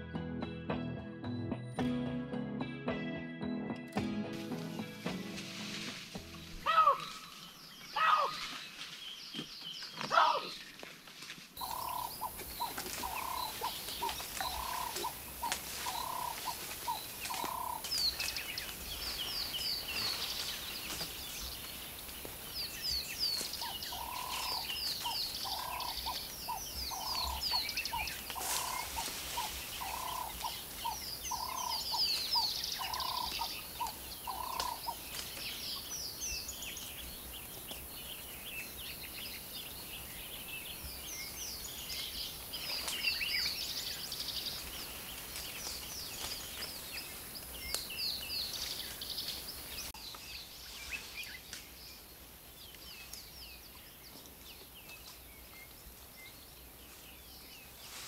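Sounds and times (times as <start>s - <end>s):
birds chirping and twittering: 4.6s - 11.0s, 11.6s - 58.0s.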